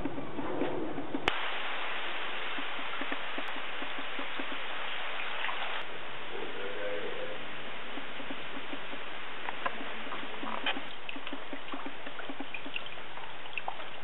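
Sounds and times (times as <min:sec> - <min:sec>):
rain falling on pond: 0:01.2 - 0:14.0.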